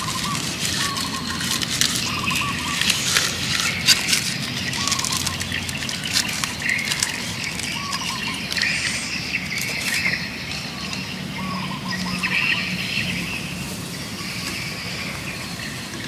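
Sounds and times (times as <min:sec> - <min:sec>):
birds chirping: 0:00.0 - 0:16.0
leaves rustling and crinkling: 0:00.0 - 0:16.0.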